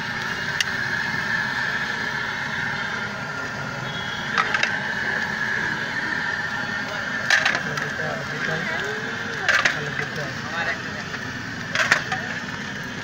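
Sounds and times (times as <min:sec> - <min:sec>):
busy street noise: 0:00.0 - 0:13.0.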